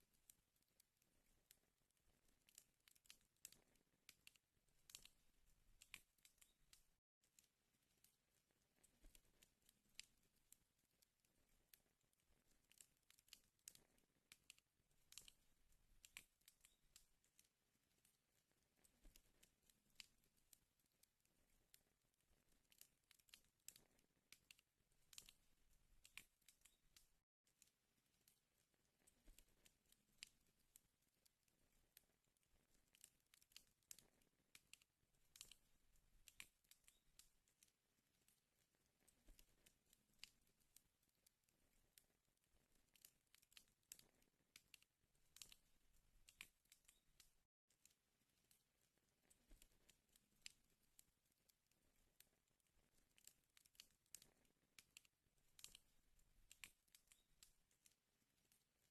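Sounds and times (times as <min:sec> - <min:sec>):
wood fire crackling: 0:00.1 - 0:40.7, 0:41.6 - 0:47.4, 0:51.9 - 0:58.9.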